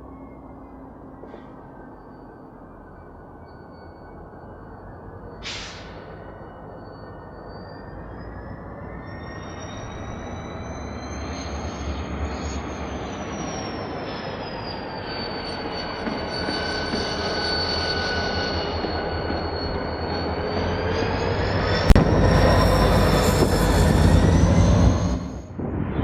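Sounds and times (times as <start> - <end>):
wheel flanges squealing: 0.0 - 25.5
freight train rumbling on jointed track: 0.0 - 26.0.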